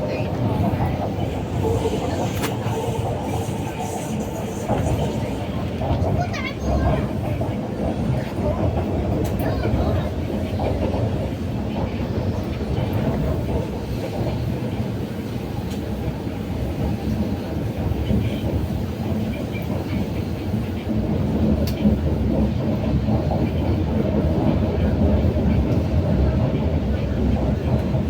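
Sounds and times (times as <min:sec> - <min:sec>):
metro train rumble: 0:00.0 - 0:28.0.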